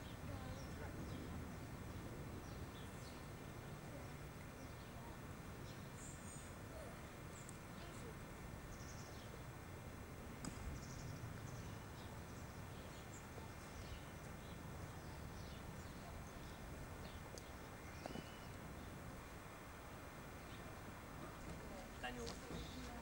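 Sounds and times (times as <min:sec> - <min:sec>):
distant city traffic rumble: 0:00.0 - 0:23.0
small birds chirping: 0:00.0 - 0:23.0.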